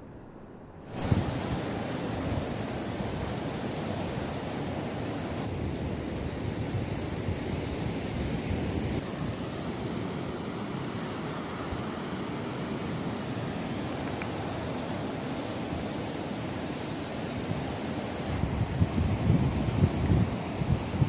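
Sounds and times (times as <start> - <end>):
wind: 0.0 - 21.0
waves washing on beach: 0.9 - 21.0.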